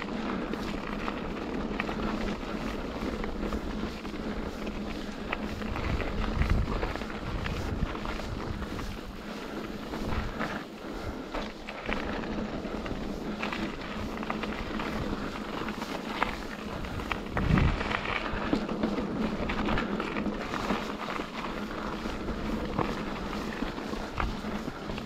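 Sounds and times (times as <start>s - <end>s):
bike rattling and knocking: 0.0s - 25.0s
bike tyres on gravel: 0.0s - 25.0s
wind on microphone: 3.1s - 10.5s, 12.2s - 25.0s.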